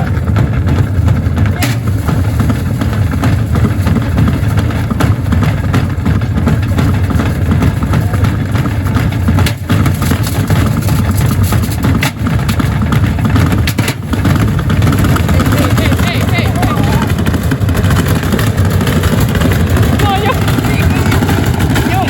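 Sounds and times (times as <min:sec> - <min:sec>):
sharp knocks: 0:00.0 - 0:22.0
washing machine rumbling: 0:00.0 - 0:22.0.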